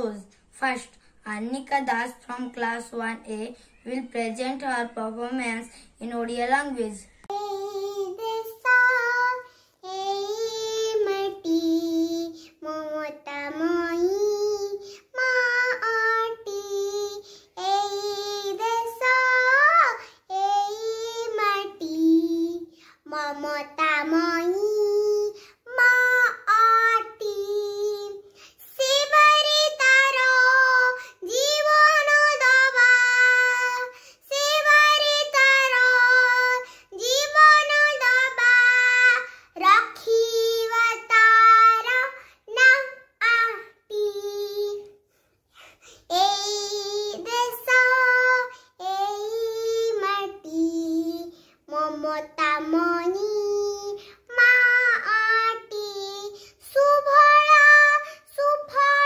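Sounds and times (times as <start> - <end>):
child singing: 0.0 - 45.0, 45.8 - 59.0.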